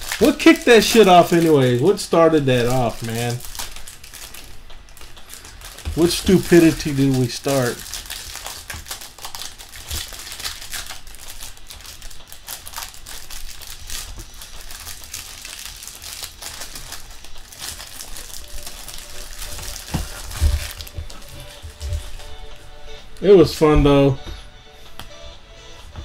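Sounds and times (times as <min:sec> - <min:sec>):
packaging crinkling and rustling: 0:00.0 - 0:22.4.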